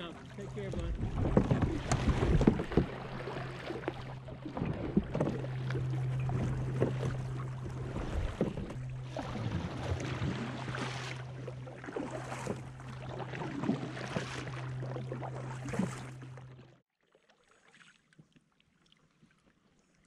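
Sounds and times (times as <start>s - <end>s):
rushing water: 0.0s - 16.2s
steady low hum: 0.0s - 16.8s
paddle strokes splashing water: 0.0s - 19.6s
wind: 0.0s - 20.0s.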